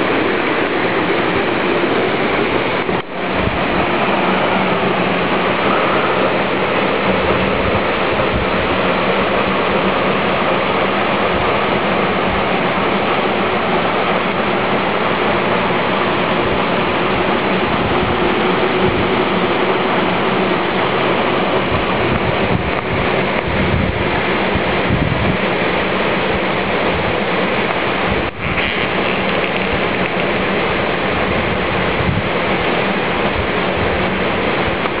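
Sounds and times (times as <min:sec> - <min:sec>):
waterfall rushing into pool: 0:00.0 - 0:35.0.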